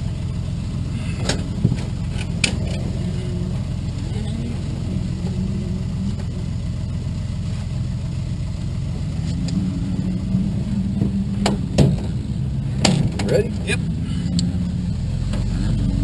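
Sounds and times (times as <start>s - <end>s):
aircraft engine idling: 0.0s - 15.9s.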